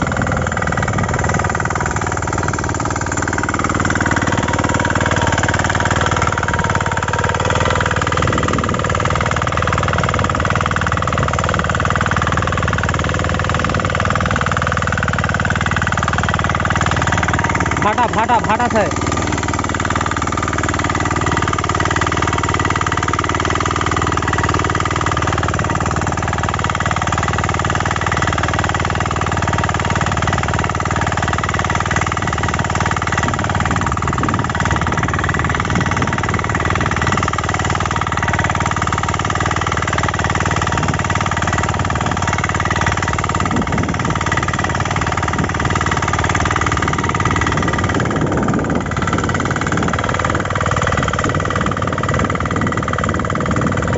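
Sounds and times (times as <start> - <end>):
power weeder engine running: 0.0 - 53.9.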